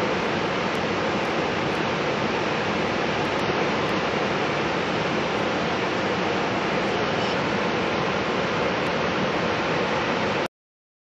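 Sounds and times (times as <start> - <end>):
water rushing through spillway: 0.0 - 10.5.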